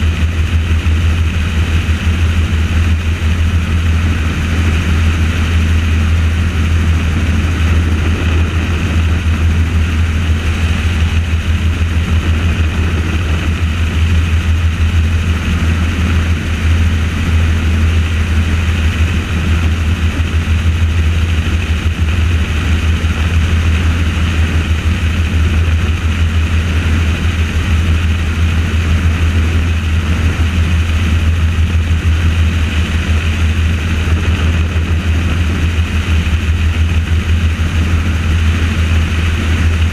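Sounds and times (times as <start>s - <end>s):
helicopter rotor and engine throbbing: 0.0s - 39.9s.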